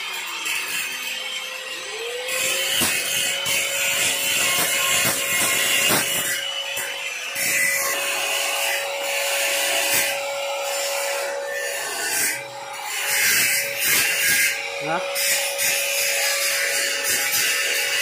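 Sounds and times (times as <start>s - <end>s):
power tool motor humming: 0.0s - 18.0s.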